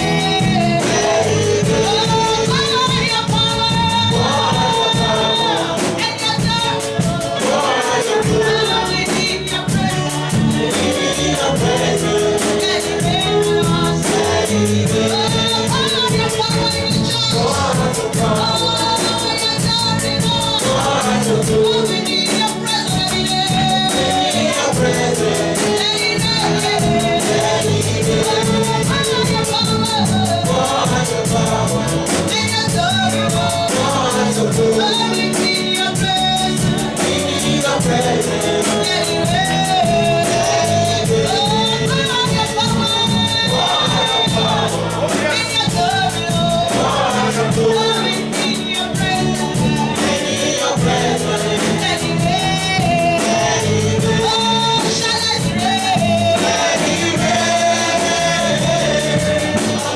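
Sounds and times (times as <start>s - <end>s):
band with steady beat: 0.0s - 59.9s
group of voices singing: 0.0s - 59.9s.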